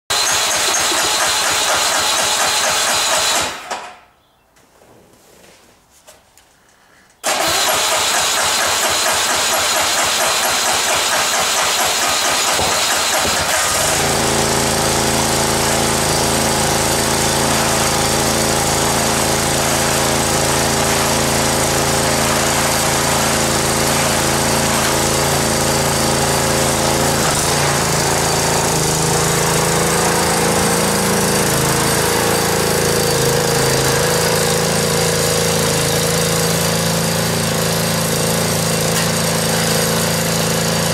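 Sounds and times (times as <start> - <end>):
small petrol engine starting and running: 0.0 - 3.9, 7.2 - 40.9.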